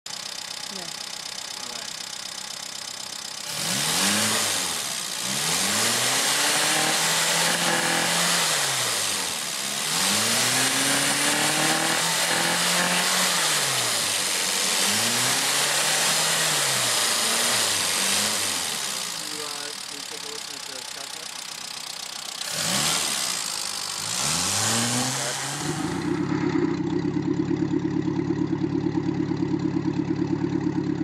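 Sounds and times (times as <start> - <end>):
car engine revving: 3.2 - 31.0.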